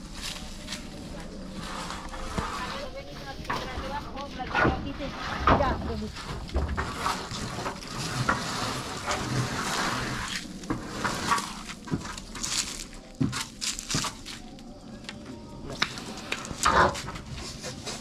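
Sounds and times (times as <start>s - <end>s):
roof sheet scraping and crackling: 0.0s - 18.0s.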